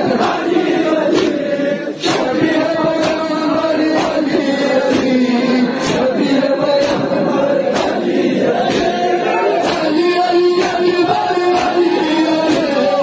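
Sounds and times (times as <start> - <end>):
crowd of men chanting: 0.0 - 13.0
chest beating slaps: 0.1 - 13.0.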